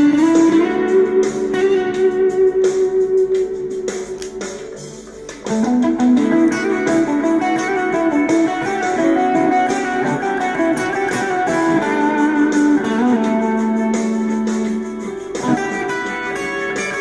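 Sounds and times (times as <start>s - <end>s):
overdriven electric guitar lead: 0.0s - 17.0s.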